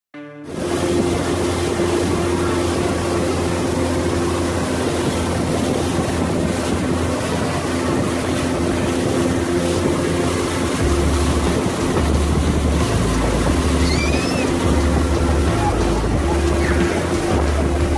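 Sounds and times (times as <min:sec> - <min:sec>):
boat motor humming: 0:00.2 - 0:17.9
water rushing: 0:00.4 - 0:17.9.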